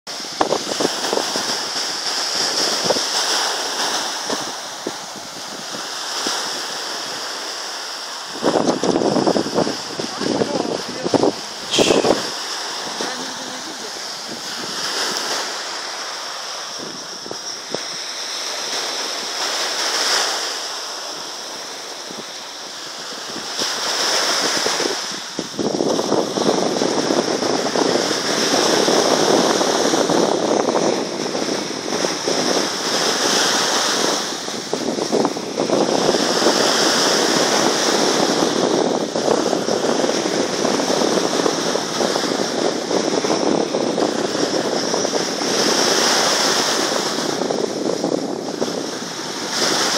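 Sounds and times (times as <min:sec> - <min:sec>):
wind: 0:00.0 - 0:49.9
waves breaking on shore: 0:00.1 - 0:49.9.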